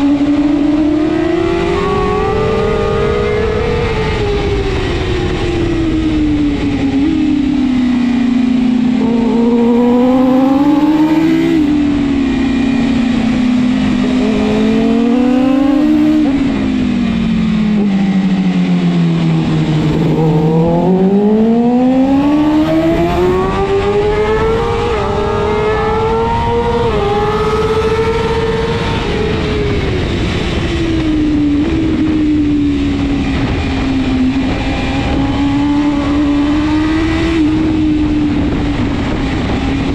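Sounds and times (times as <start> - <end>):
motorcycle engine at racing revs: 0.0 - 39.9.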